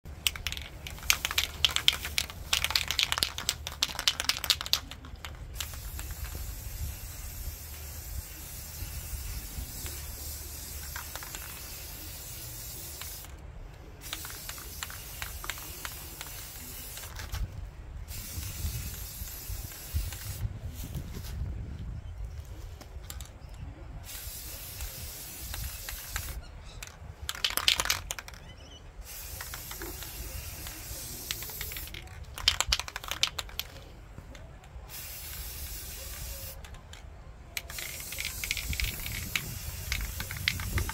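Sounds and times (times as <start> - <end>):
spray can hissing: 0.1 - 13.4, 14.0 - 17.4, 18.1 - 21.3, 24.0 - 28.4, 29.0 - 33.8, 34.9 - 36.8, 37.6 - 40.9
spray can rattling: 0.1 - 13.4, 14.0 - 17.5, 18.1 - 21.4, 24.0 - 28.4, 29.0 - 33.9, 34.9 - 37.0, 37.6 - 40.9.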